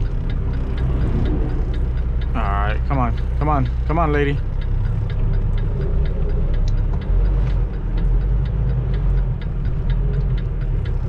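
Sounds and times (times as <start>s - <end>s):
diesel truck engine idling: 0.0s - 11.0s
turn signal ticking: 0.0s - 11.0s.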